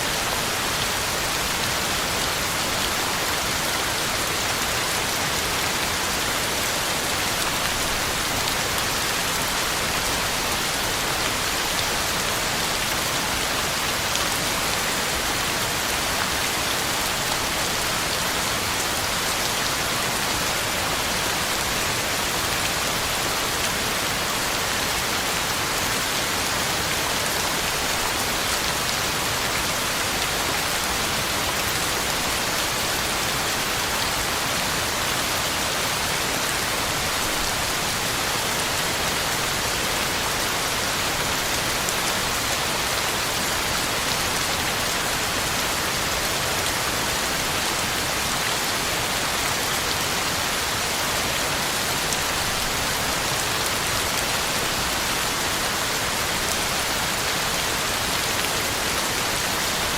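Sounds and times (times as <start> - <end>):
heavy rain on ground and leaves: 0.0 - 59.9.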